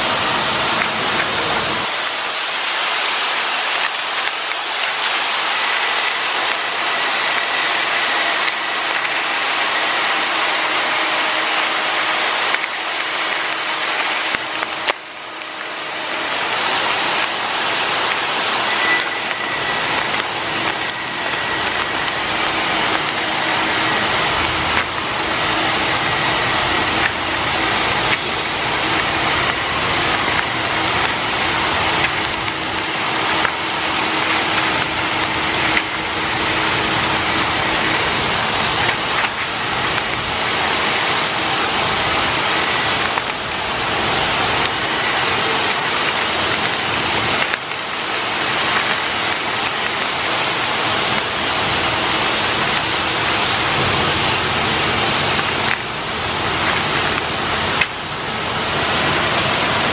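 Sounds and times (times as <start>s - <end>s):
loud machinery noise: 0.0s - 59.9s
plastic sachets crackling: 0.4s - 59.9s.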